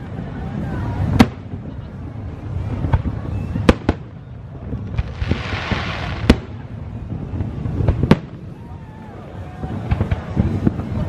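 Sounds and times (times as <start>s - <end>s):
fireworks bangs: 0.0s - 11.0s
fizzing crackle of fireworks: 0.0s - 11.0s
low continuous rumble: 0.0s - 11.0s.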